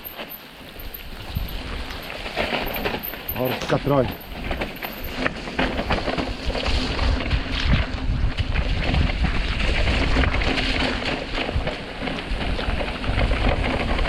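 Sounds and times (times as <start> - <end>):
bike knocks and rattles: 0.0 - 14.0
wind buffeting microphone: 0.0 - 14.0.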